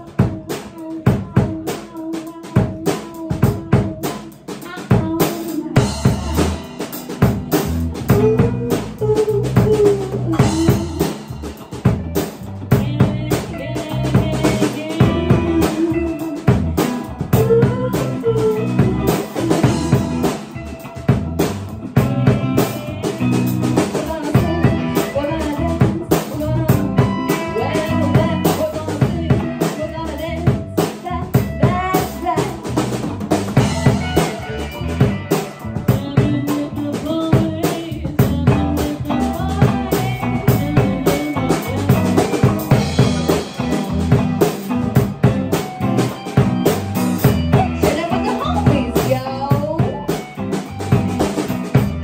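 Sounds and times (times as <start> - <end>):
bass guitar: 0.0 - 52.0
drum kit beat: 0.0 - 52.0
electric guitar: 0.0 - 52.0.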